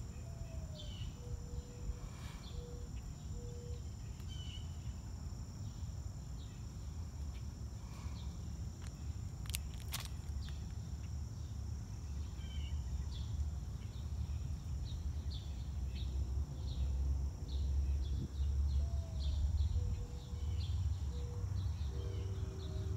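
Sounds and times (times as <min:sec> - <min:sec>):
high insect drone: 0:00.0 - 0:22.9
insect chirps: 0:00.0 - 0:22.9.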